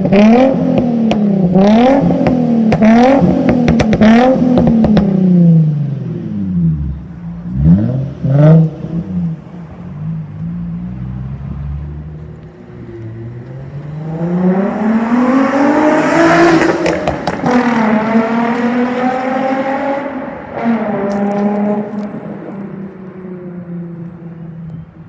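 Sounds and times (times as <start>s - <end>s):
sports car engine accelerating: 0.0s - 24.9s.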